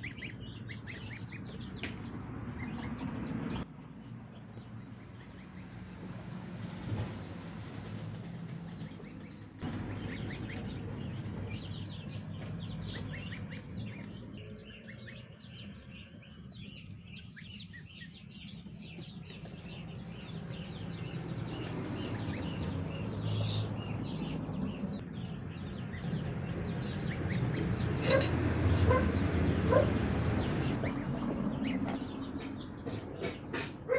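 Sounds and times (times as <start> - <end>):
goslings and ducklings peeping: 0.0 - 5.9, 8.7 - 33.9.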